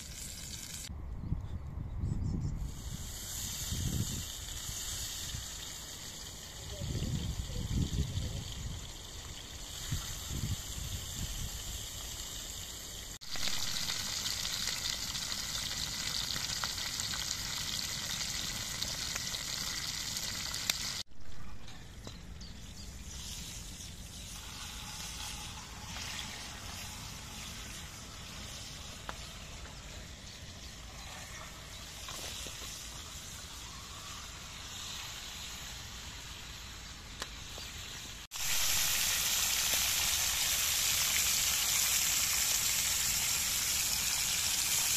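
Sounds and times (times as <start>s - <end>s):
fish sizzling in a pan: 0.0s - 0.9s, 2.7s - 21.1s, 23.1s - 44.9s.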